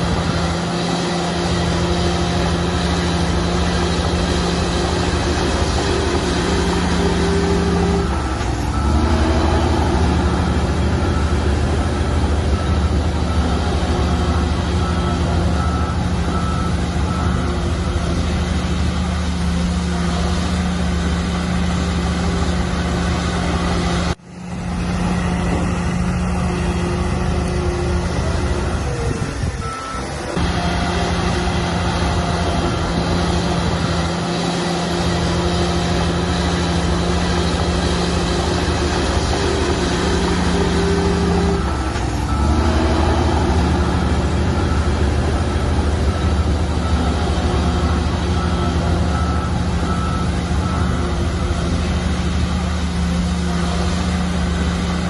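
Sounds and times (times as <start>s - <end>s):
heavy diesel machinery running: 0.0s - 55.0s
reversing alarm beeping: 0.1s - 19.2s, 25.4s - 55.0s.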